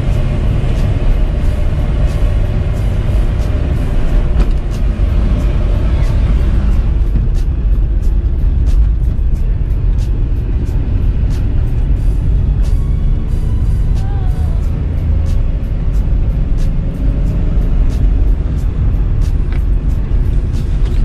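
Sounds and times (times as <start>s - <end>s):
car engine drone: 0.0s - 21.0s
road noise: 0.0s - 21.0s
music with a regular beat: 0.1s - 21.0s.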